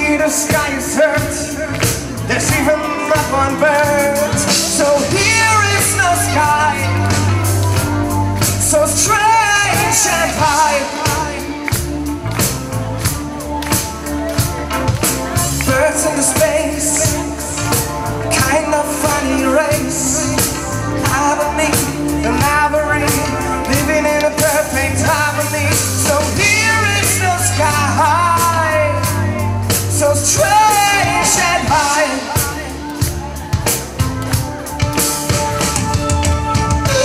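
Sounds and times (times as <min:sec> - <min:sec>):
bass guitar: 0:00.0 - 0:37.0
drums: 0:00.0 - 0:37.0
person singing: 0:00.0 - 0:37.0.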